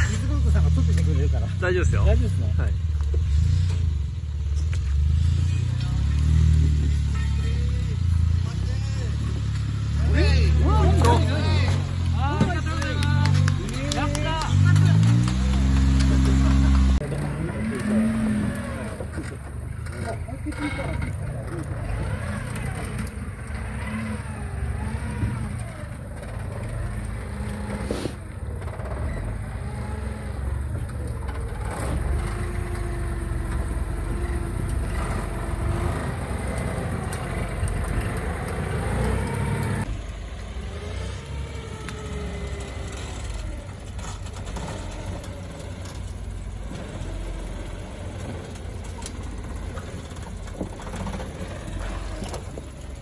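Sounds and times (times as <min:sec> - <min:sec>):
engine revving: 0:00.0 - 0:53.0.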